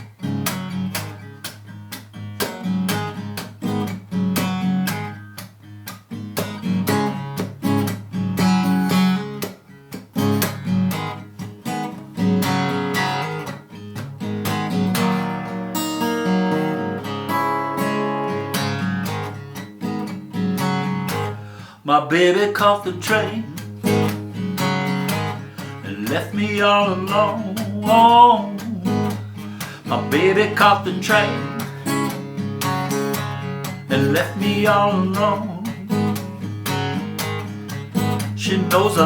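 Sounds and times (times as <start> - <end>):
acoustic guitar blues: 0.0 - 39.0.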